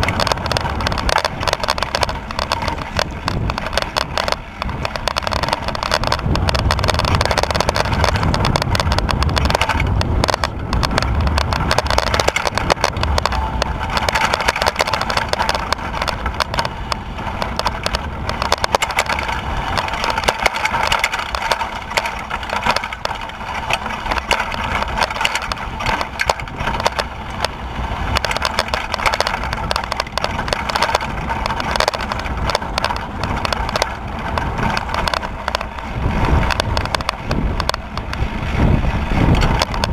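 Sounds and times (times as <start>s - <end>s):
bike rattling over stones: 0.0s - 39.9s
tyres crunching on gravel: 0.0s - 39.9s
wind noise on microphone: 0.0s - 39.9s.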